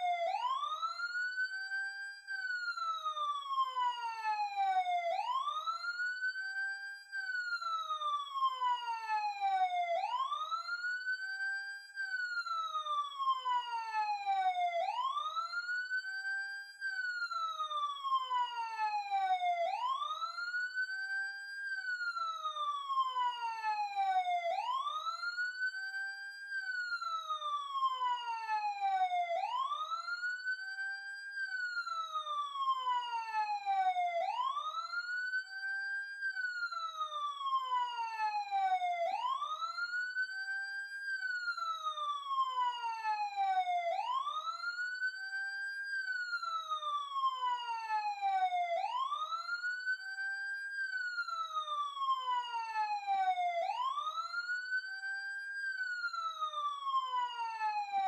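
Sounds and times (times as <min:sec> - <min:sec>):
emergency siren wailing: 0:00.0 - 0:58.0.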